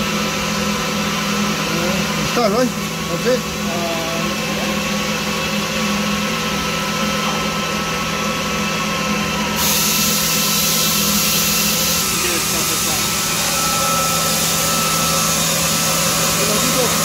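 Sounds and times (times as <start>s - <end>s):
electric machinery hum with whine: 0.0s - 17.0s.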